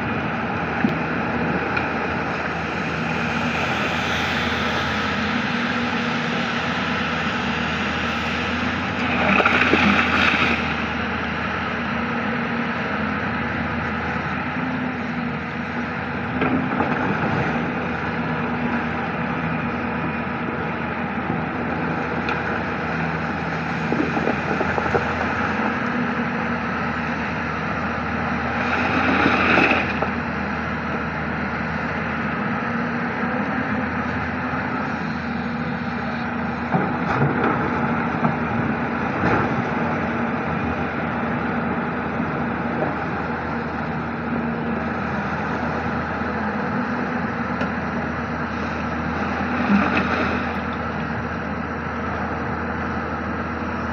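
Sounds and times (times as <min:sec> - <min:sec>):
excavator engine and hydraulics: 0:00.0 - 0:53.9.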